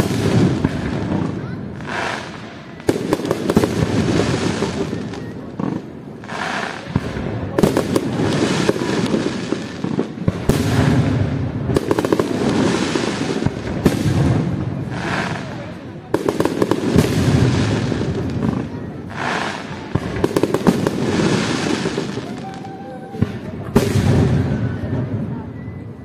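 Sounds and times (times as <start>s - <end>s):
firework crackling: 0.0s - 26.0s.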